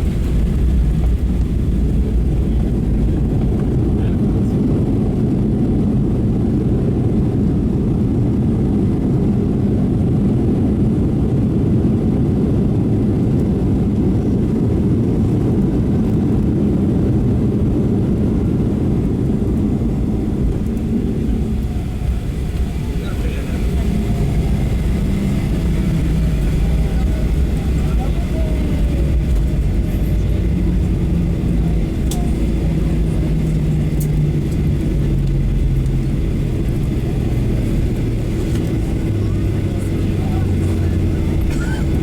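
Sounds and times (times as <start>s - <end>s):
aircraft engine and airflow rumble: 0.0s - 42.0s.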